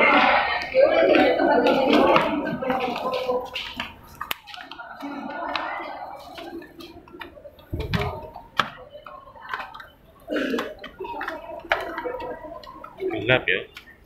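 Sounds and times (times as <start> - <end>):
murmur of voices: 0.0 - 14.0
footsteps on a staircase: 0.1 - 9.8, 10.5 - 14.0.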